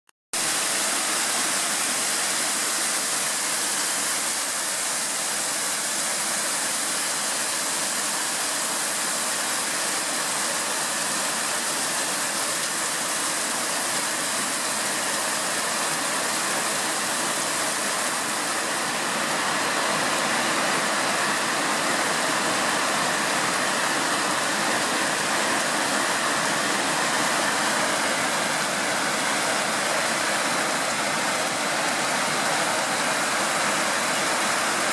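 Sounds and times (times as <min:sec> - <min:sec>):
hail and heavy rain falling: 0:00.4 - 0:34.9.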